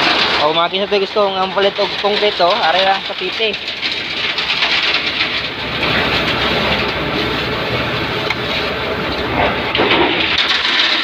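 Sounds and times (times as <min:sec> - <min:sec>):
machinery running: 0:00.0 - 0:11.0.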